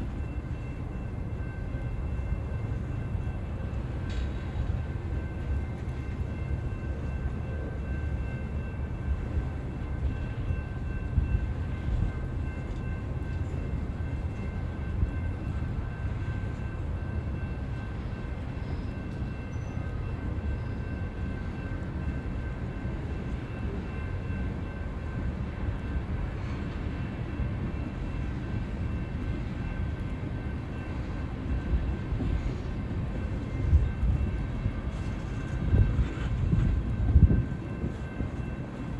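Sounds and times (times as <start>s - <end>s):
train cars rumbling on rails: 0.0s - 38.9s.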